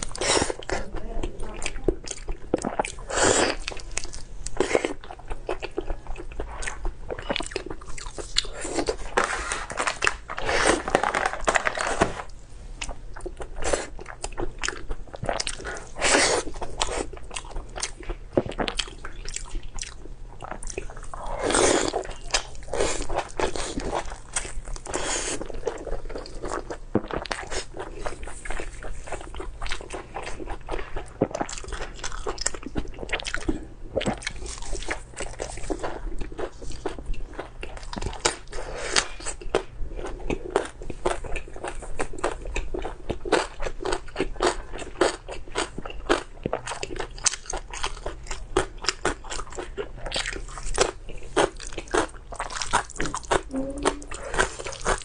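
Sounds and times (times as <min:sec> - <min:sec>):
person chewing crunchily: 0:00.0 - 0:55.0.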